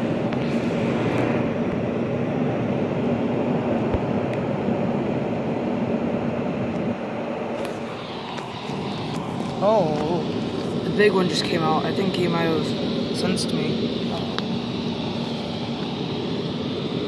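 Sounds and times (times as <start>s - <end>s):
outdoor background drone: 0.0s - 17.0s.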